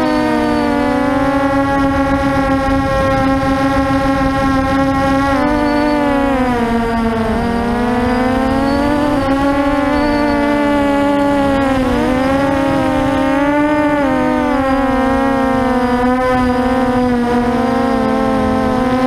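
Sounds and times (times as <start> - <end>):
quadcopter propellers whining: 0.0 - 19.0.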